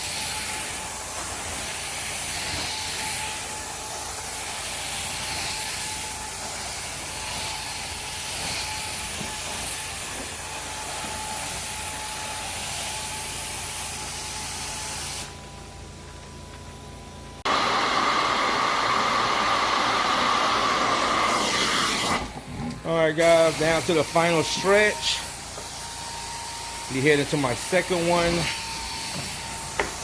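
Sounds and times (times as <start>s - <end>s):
carpet cleaner spray and suction hiss: 0.0s - 15.4s, 17.5s - 30.0s.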